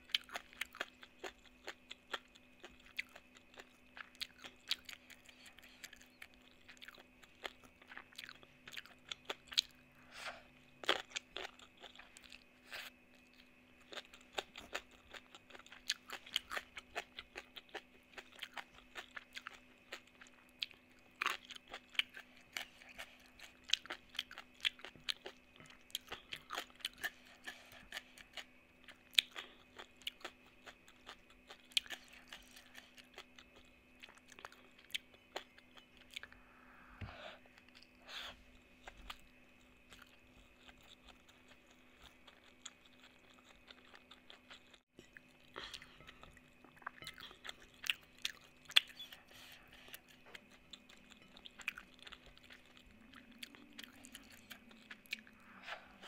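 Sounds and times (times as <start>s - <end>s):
crunchy chewing: 0.0s - 36.5s, 37.2s - 56.0s
faint steady hum: 0.0s - 56.0s.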